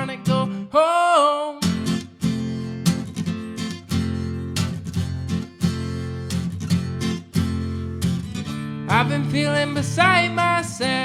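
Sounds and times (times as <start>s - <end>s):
acoustic guitar strumming: 0.0s - 0.7s, 1.6s - 11.0s.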